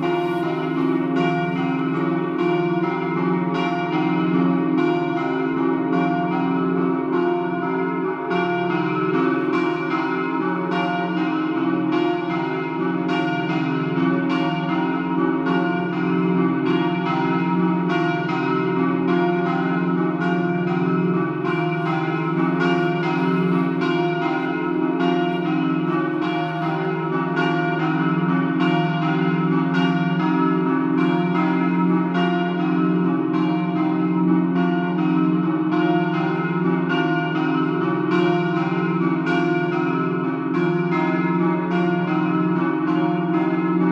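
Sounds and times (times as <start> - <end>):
church bells ringing in peal: 0.0 - 43.9.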